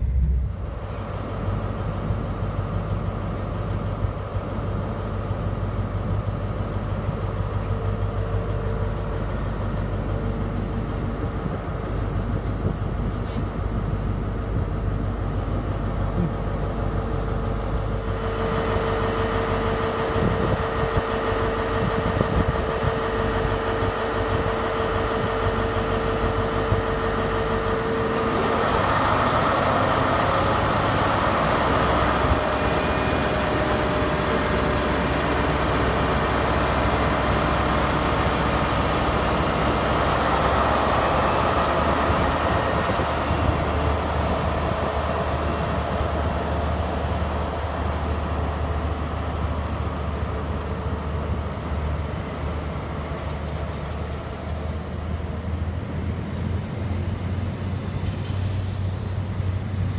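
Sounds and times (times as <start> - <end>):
diesel train engine: 0.0 - 59.9
train coaches rolling past: 0.0 - 59.9.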